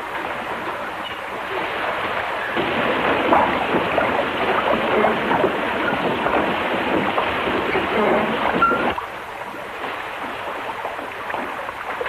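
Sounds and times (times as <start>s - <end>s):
water pouring off water wheel: 0.0s - 12.0s.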